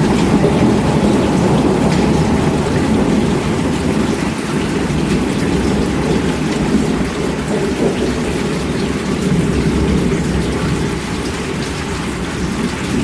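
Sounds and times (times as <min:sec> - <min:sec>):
heavy rainfall: 0:00.0 - 0:13.0.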